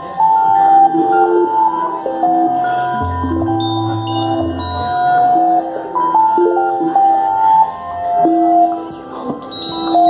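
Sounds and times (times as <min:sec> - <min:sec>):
keyboard notes: 0:00.0 - 0:10.0.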